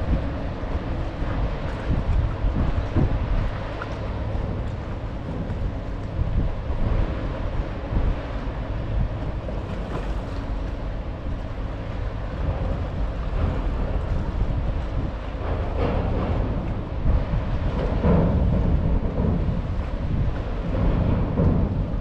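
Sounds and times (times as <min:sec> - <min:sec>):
ferry engine rumble: 0:00.0 - 0:22.0
water rushing past hull: 0:00.0 - 0:22.0
wind buffeting microphone: 0:00.0 - 0:22.0.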